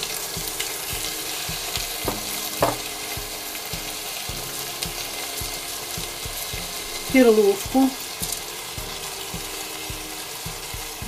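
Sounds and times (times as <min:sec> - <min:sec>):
meat and vegetables sizzling: 0:00.0 - 0:11.0.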